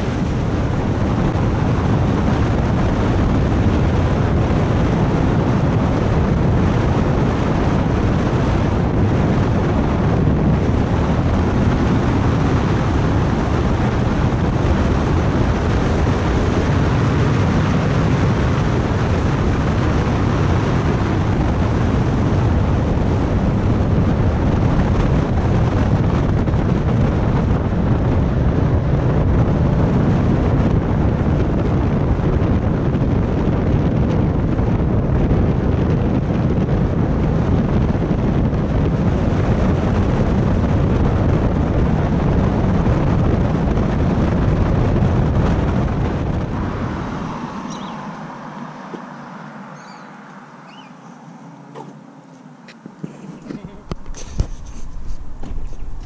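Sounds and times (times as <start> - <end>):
loud wind rush: 0.0 - 56.0.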